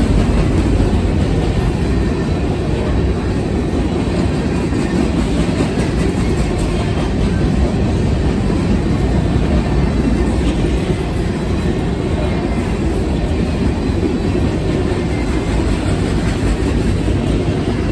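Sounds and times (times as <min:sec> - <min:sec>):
freight train rumbling past: 0:00.0 - 0:17.9.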